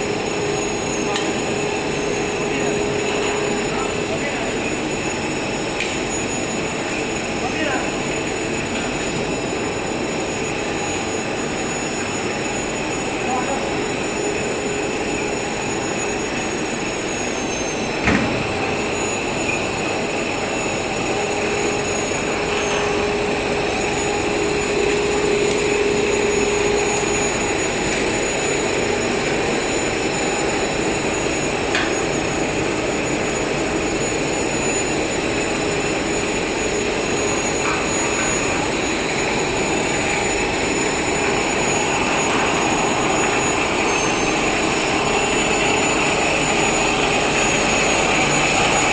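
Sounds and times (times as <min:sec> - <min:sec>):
machine running with high whine: 0:00.0 - 0:48.9.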